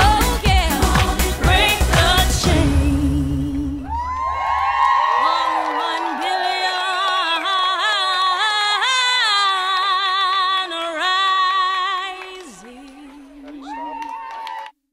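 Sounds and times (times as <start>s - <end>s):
woman singing with vibrato: 0.0s - 4.2s, 5.2s - 14.1s.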